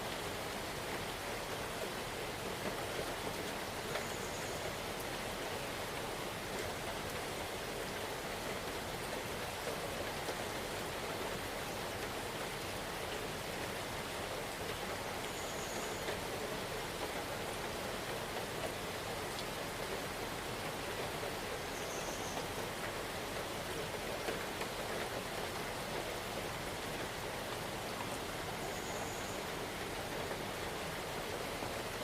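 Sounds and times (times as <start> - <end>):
rain falling in forest: 0.0 - 32.0.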